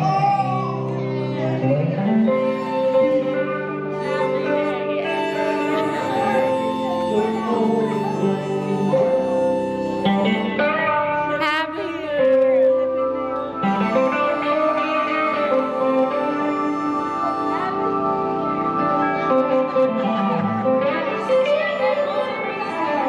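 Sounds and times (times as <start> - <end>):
guitar-led music: 0.0 - 23.0.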